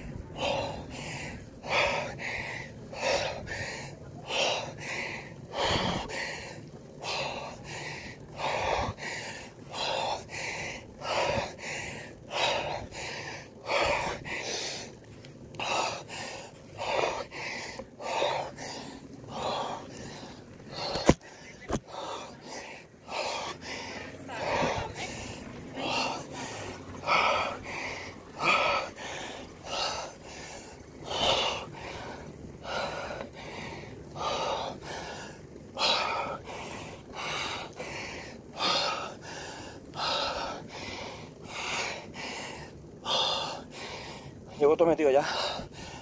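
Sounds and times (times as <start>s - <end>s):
cyclist breathing hard: 0.0s - 46.0s.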